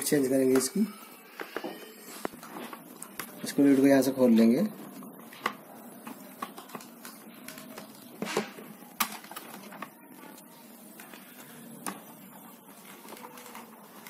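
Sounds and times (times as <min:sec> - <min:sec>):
hands rustling wiring: 0:01.4 - 0:14.0.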